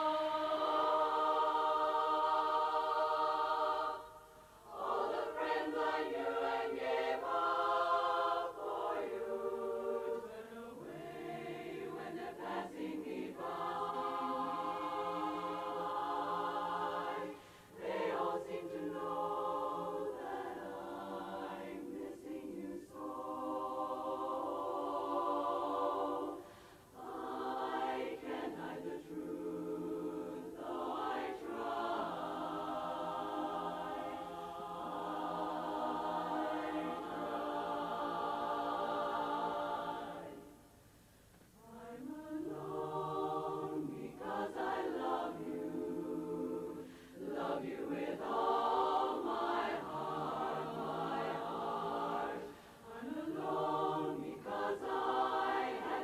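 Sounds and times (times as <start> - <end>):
women's chorus singing a cappella: 0.0 - 40.9, 41.6 - 56.0.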